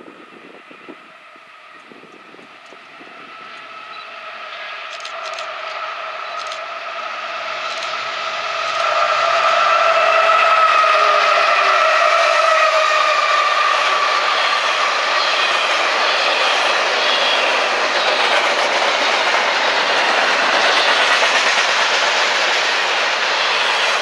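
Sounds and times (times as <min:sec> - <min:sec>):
freight train passing: 0:00.0 - 0:24.0
high-pitched squeal: 0:02.9 - 0:24.0.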